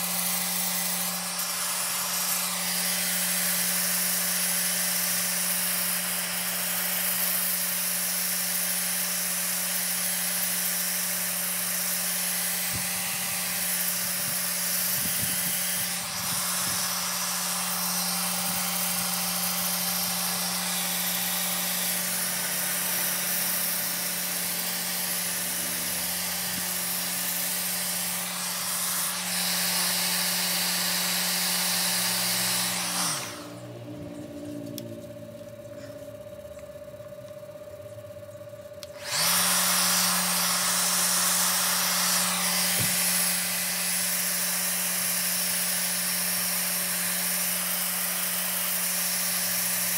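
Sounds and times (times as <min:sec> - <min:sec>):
orbital sander on wood: 0:00.0 - 0:36.8, 0:38.8 - 0:49.9.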